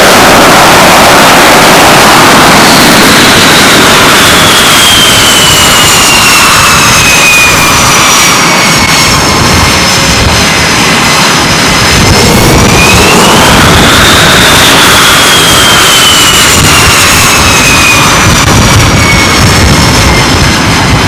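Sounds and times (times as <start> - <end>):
jet exhaust roar: 0.0 - 21.0
turbine whine: 0.0 - 21.0.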